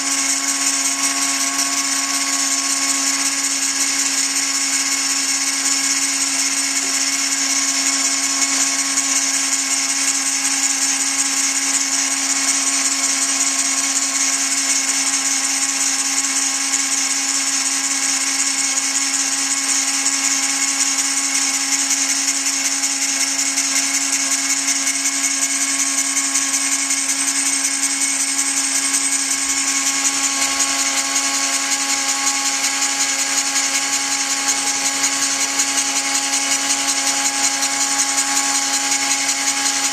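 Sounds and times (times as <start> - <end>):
grinding stone on metal: 0.0 - 39.9
rotary tool whining: 0.0 - 39.9.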